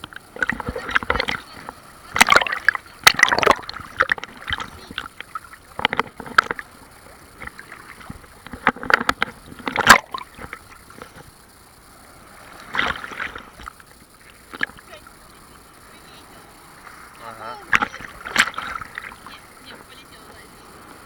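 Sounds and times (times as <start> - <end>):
sea waves splashing: 0.0 - 21.0.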